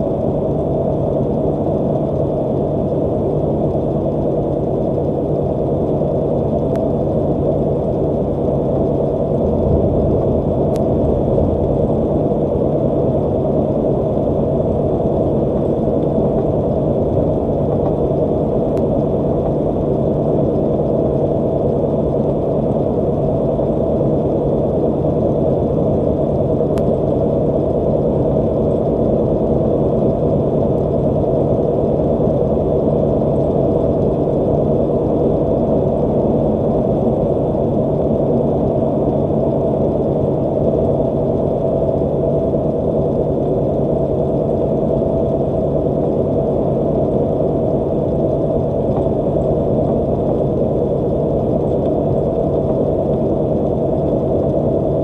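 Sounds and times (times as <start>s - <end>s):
constant low hum: 0.0s - 55.0s.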